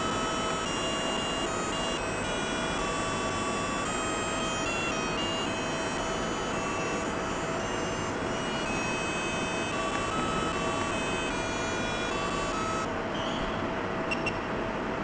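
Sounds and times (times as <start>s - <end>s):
alarm clock beeping melody: 0.0s - 12.9s.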